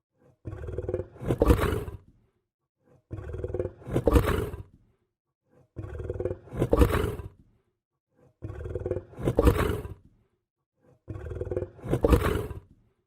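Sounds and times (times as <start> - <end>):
lion growling: 0.2 - 10.2, 10.8 - 13.0.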